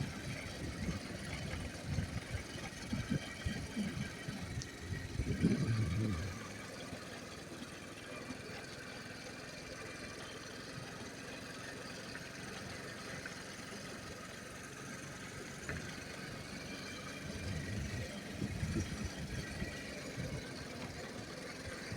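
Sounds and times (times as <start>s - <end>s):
motorbike engine idling: 0.0s - 21.9s.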